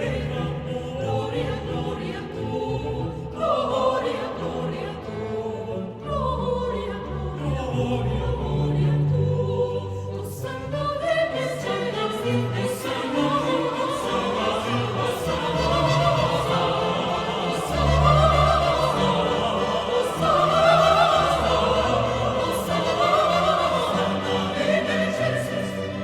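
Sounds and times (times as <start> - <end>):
choir and orchestra sacred music: 0.0 - 26.0.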